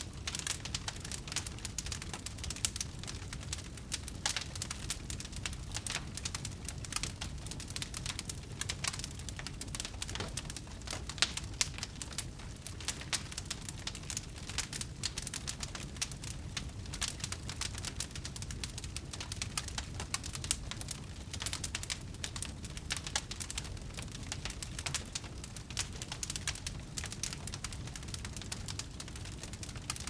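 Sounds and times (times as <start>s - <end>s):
fire crackling and popping: 0.0s - 30.0s
low rumble of flame: 0.0s - 30.0s.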